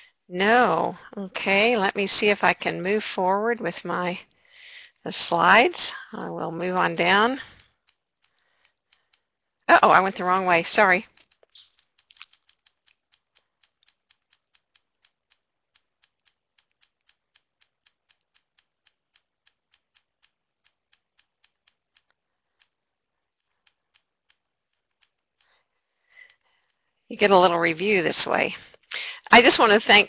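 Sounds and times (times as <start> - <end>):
faint rapid computer clicks: 0.0 - 30.0.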